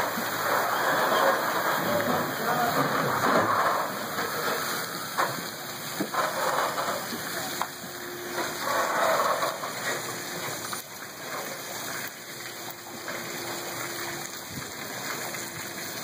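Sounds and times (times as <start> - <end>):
water washing and splashing: 0.0 - 16.0.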